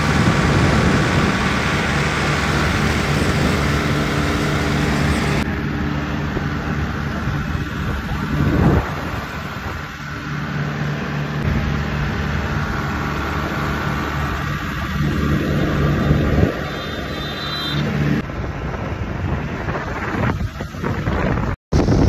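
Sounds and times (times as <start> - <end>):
tractor engine humming: 0.0 - 18.3
road and wind noise: 0.0 - 22.0.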